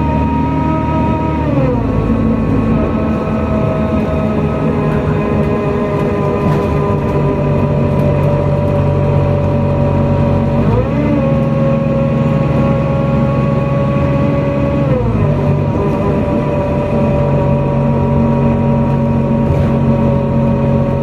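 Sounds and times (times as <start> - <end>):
bus engine drone: 0.0 - 21.0
drivetrain whine: 0.0 - 21.0.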